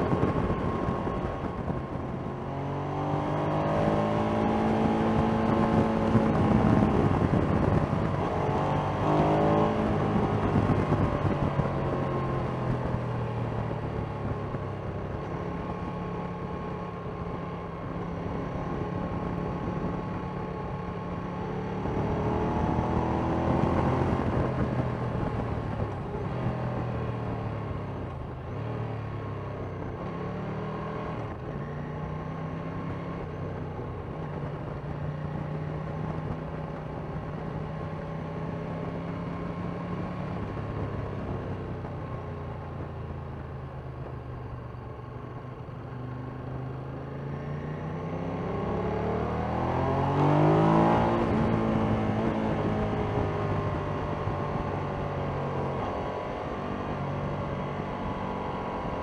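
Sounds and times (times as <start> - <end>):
motorcycle engine revving: 0.0 - 59.0
road noise: 0.0 - 59.0.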